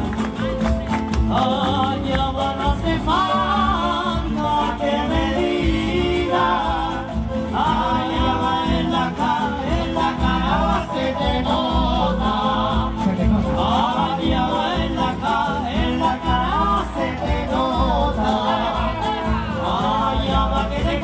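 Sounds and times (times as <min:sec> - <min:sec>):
latin dance band playing: 0:00.0 - 0:21.0
person singing: 0:01.2 - 0:21.0.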